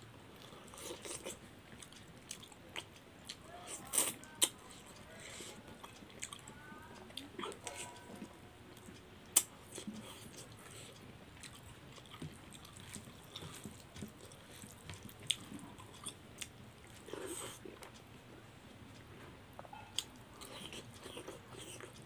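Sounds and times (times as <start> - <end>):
person chewing: 0.4 - 18.0, 19.6 - 22.0.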